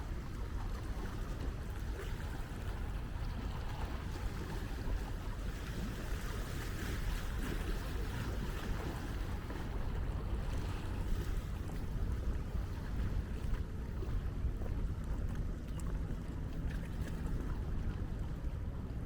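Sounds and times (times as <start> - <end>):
sea waves: 0.0 - 19.0
wind buffeting microphone: 0.0 - 19.0.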